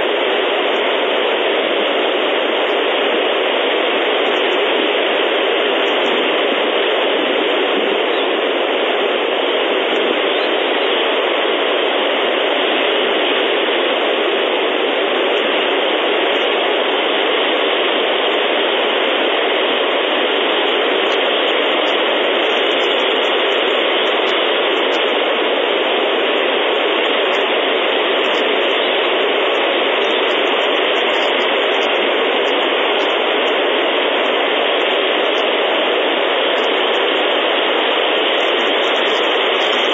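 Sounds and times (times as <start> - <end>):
static-like hiss: 0.0 - 39.9.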